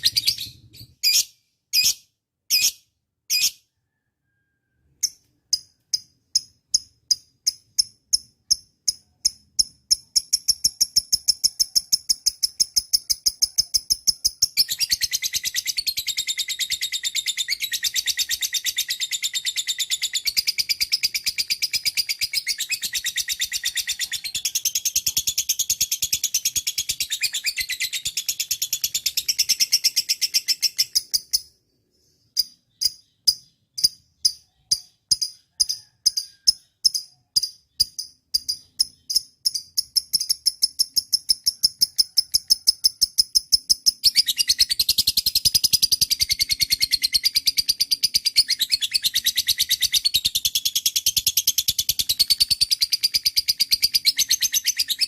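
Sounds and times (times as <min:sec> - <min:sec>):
lovebird chirping and trilling: 0:00.0 - 0:55.0.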